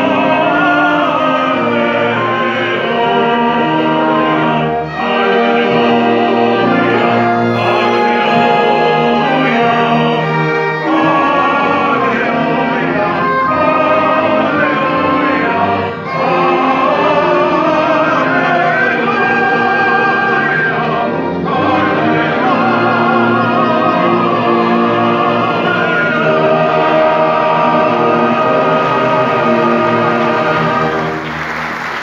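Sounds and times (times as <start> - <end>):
operatic singers: 0.0 - 32.0
string orchestra: 0.0 - 32.0.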